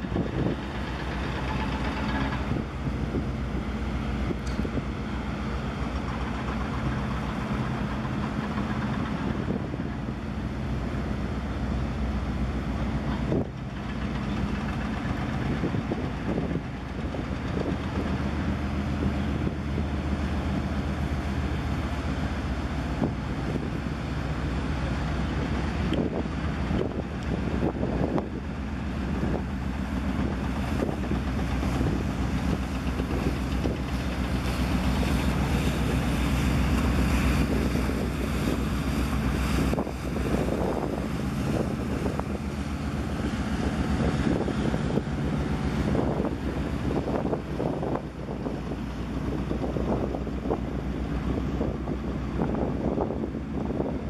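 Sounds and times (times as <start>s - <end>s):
ship engine hum: 0.0s - 54.0s.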